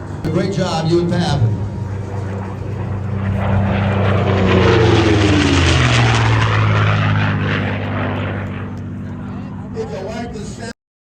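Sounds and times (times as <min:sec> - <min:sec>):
propeller plane passing overhead: 0:00.0 - 0:10.7.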